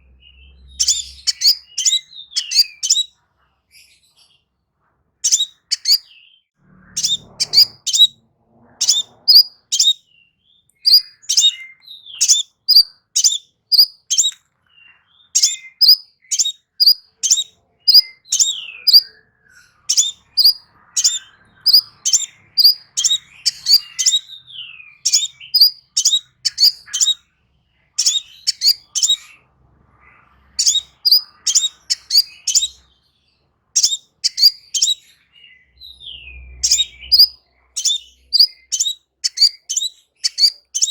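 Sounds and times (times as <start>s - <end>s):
bird chirping: 0.0s - 3.2s, 5.2s - 40.9s.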